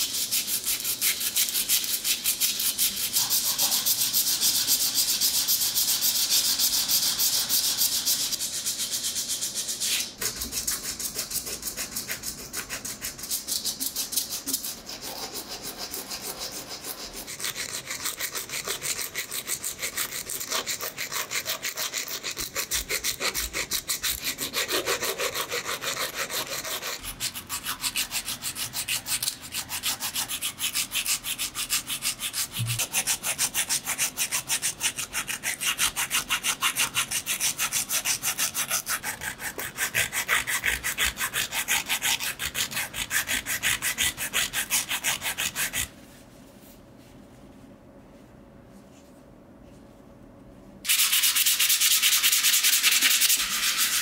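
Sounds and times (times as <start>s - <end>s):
sandpaper rubbing on steel: 0.0s - 45.9s, 50.9s - 54.0s.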